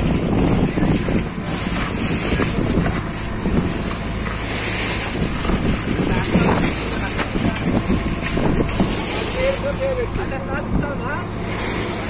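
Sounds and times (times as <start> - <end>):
boat engine running: 0.0 - 12.0
water rushing past hull: 0.0 - 12.0
wind on microphone: 0.0 - 12.0.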